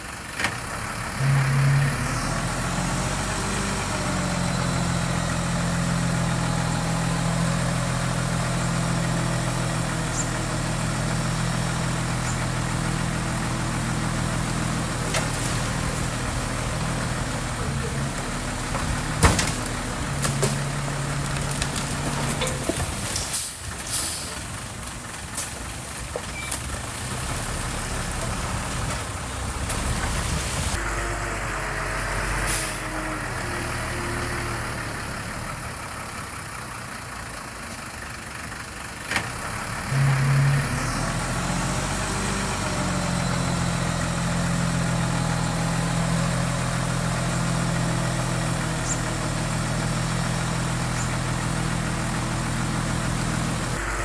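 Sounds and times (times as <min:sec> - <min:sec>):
construction machinery diesel engines: 0:00.0 - 0:54.0.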